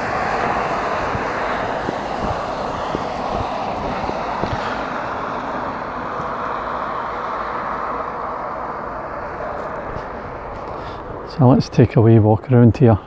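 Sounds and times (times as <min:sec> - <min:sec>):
vehicle rushing noise: 0:00.0 - 0:12.0.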